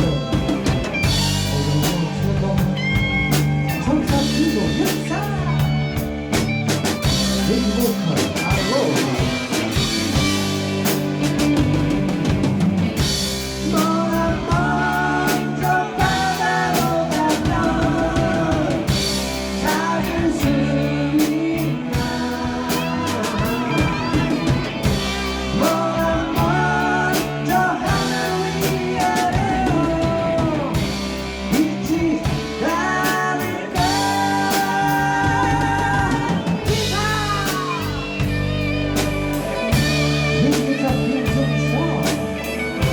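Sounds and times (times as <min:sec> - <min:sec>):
band playing rock ballad: 0:00.0 - 0:42.9
held lead melody notes: 0:00.0 - 0:42.9.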